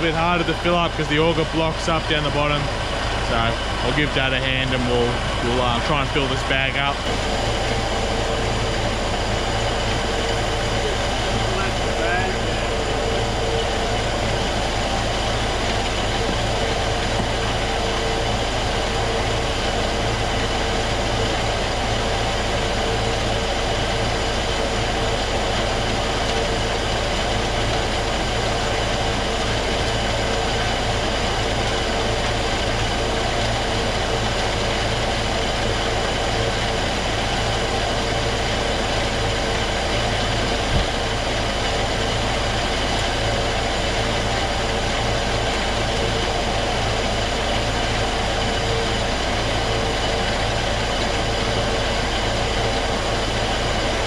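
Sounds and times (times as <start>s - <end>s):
grain auger mechanical drone: 0.0s - 54.0s.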